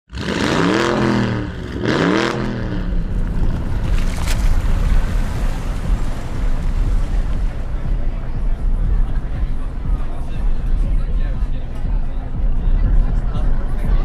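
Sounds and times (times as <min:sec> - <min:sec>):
car engine revving: 0:00.1 - 0:14.0
deep engine rumble: 0:00.1 - 0:14.0.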